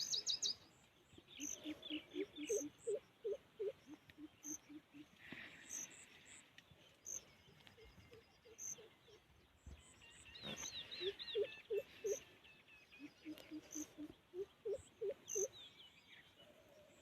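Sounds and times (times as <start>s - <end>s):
bird-like chirping: 0.0s - 6.0s, 6.9s - 16.4s.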